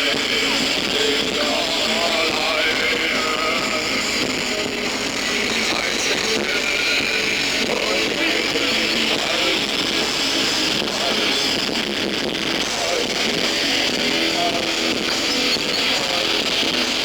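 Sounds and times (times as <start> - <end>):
live rock music with electric guitar: 0.0 - 17.0.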